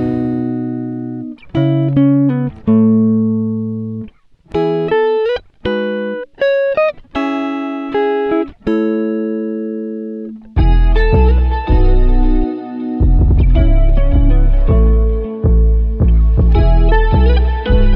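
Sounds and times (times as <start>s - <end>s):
guitar chords ringing: 0.0s - 17.9s.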